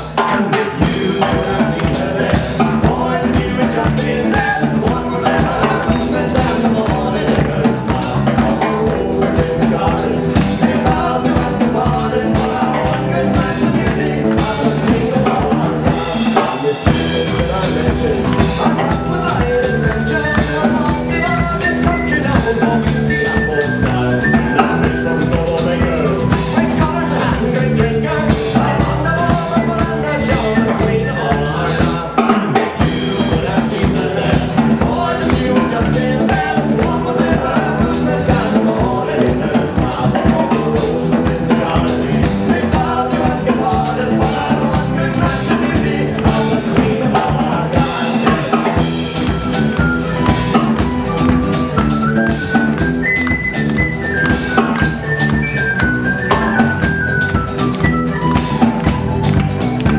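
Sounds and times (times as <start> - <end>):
drum kit beat: 0.0 - 59.9
rock band playing live: 0.0 - 59.9.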